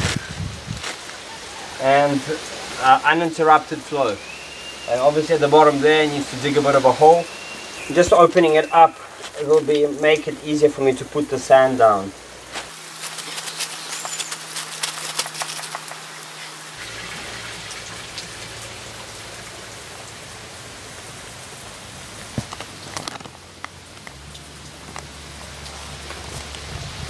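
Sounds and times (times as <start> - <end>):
water pattering and splashing: 0.0 - 27.0.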